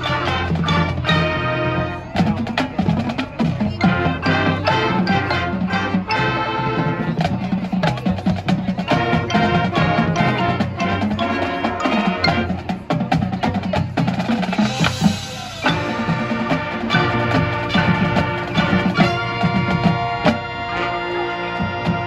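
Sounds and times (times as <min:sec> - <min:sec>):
horn chords: 0:00.0 - 0:07.8, 0:08.7 - 0:13.0, 0:14.5 - 0:22.0
drumline playing: 0:00.0 - 0:22.0.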